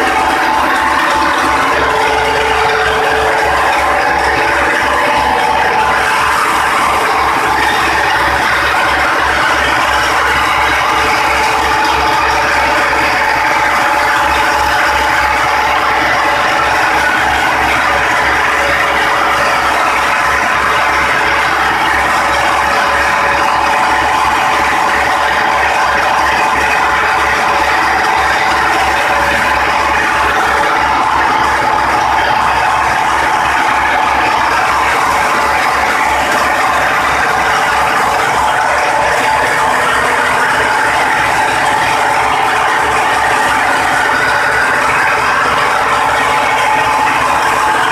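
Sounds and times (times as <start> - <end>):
mechanical clatter of belts and mill: 0.0 - 47.9
tractor diesel engine running: 0.0 - 47.9.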